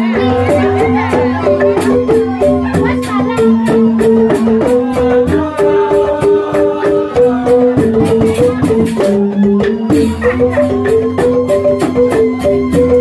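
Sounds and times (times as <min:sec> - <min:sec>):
bamboo xylophones playing: 0:00.0 - 0:13.0.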